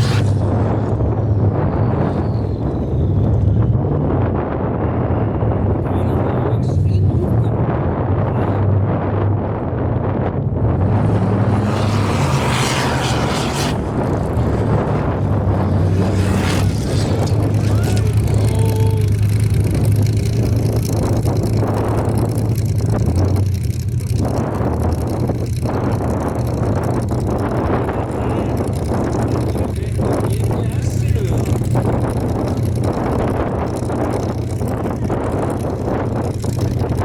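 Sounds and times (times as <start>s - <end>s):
race car engine running: 0.0s - 37.0s.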